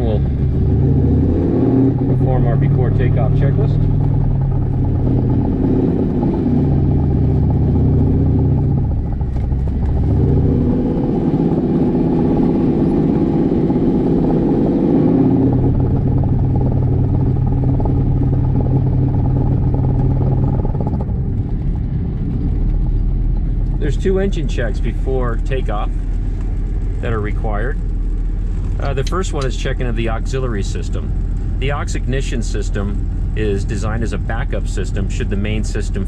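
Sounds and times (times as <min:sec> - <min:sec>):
aircraft engine and propeller: 0:00.0 - 0:36.0.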